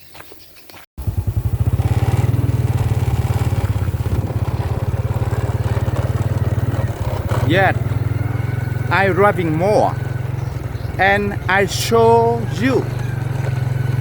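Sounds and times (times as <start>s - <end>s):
motorcycle engine running: 1.0s - 14.0s.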